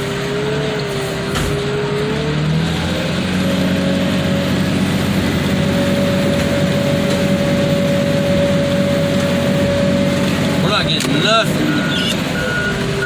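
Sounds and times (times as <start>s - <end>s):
car crusher engine and hydraulic pump: 0.0s - 13.0s.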